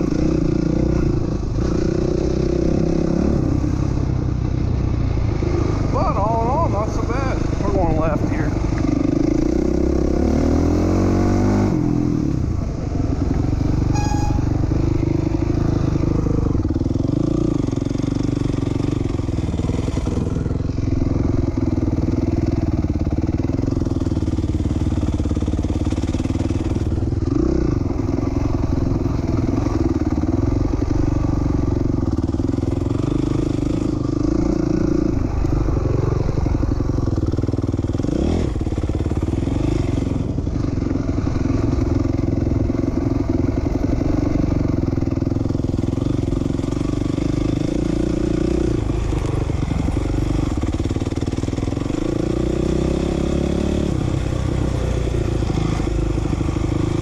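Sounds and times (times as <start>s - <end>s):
motorcycle engine under throttle: 0.0s - 57.0s.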